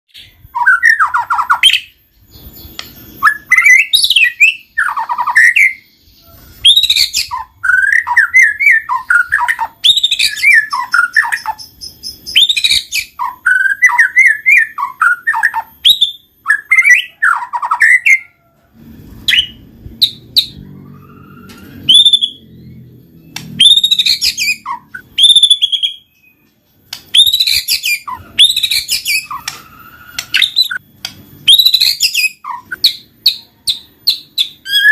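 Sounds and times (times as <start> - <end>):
bird singing whistles and trills: 0.1 - 18.4, 19.3 - 30.8, 31.4 - 34.9.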